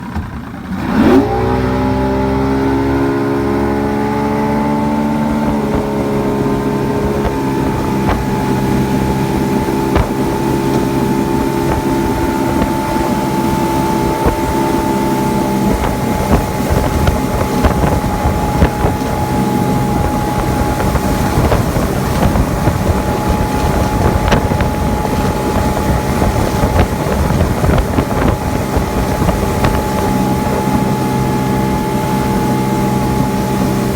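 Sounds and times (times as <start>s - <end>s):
motorboat engine: 0.0s - 33.9s
wind buffeting microphone: 2.2s - 33.9s.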